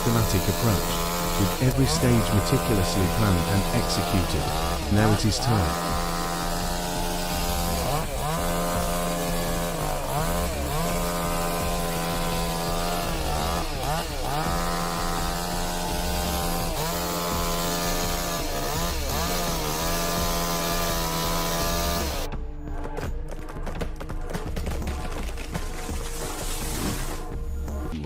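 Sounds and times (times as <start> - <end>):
chainsaw running at high revs: 0.0 - 22.3, 24.8 - 28.0.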